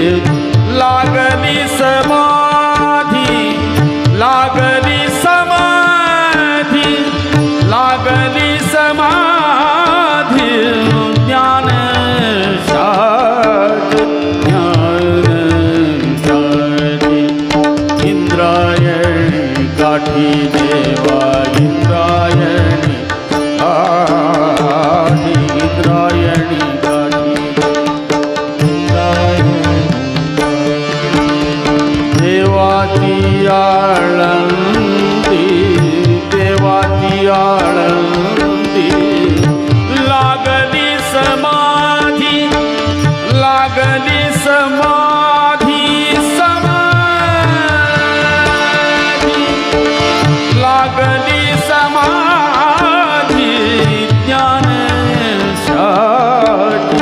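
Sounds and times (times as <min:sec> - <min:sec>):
man singing ornamented melody: 0:00.0 - 0:57.0
tabla strokes: 0:00.0 - 0:57.0.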